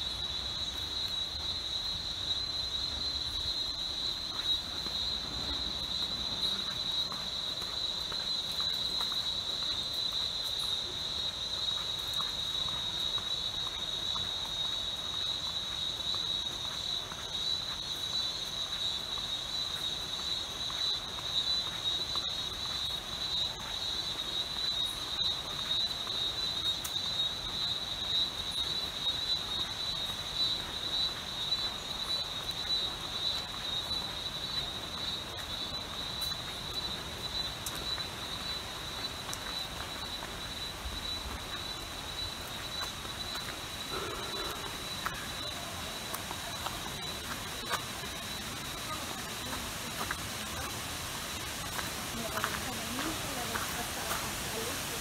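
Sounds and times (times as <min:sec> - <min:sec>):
insects high-pitched drone: 0:00.0 - 0:55.0.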